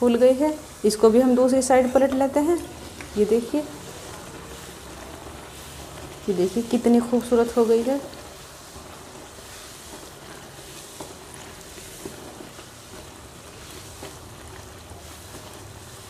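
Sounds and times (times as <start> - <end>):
bread sizzling in hot oil: 0.0 - 16.0.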